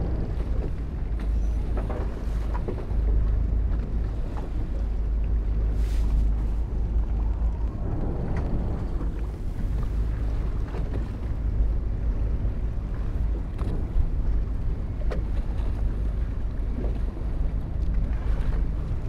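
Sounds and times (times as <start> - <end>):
fishing boat noise: 0.0 - 19.0
wind on microphone: 0.0 - 19.0.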